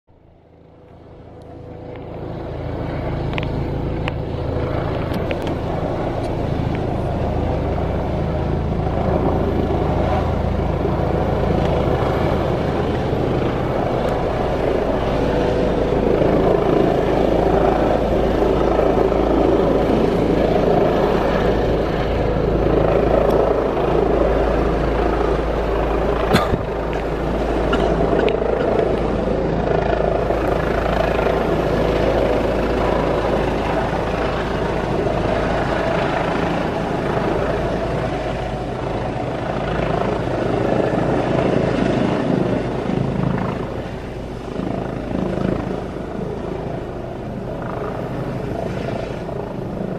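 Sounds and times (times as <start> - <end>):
helicopter rotor and engine: 0.1 - 49.9.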